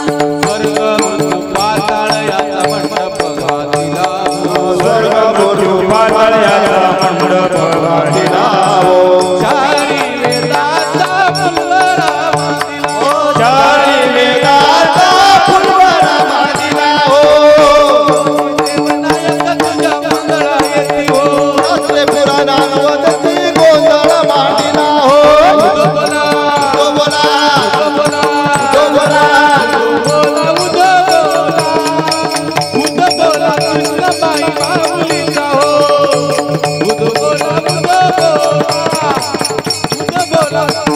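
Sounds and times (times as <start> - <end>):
man singing into a microphone: 0.0 - 40.9.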